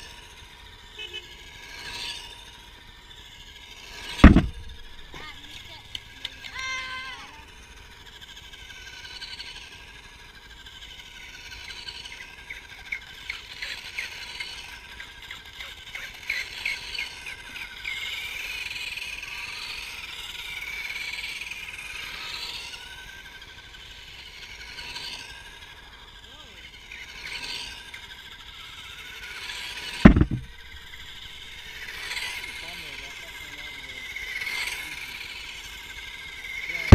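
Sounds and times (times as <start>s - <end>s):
electric toy car motors whining: 0.0s - 36.9s.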